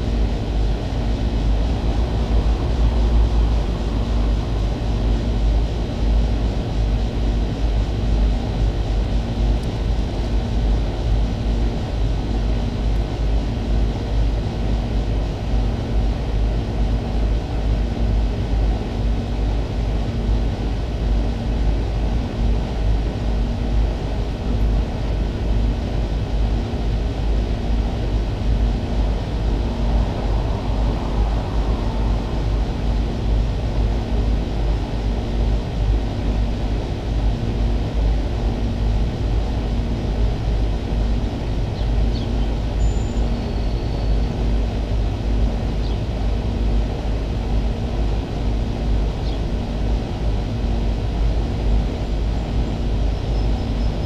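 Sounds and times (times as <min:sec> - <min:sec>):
air conditioner units humming: 0:00.0 - 0:54.0.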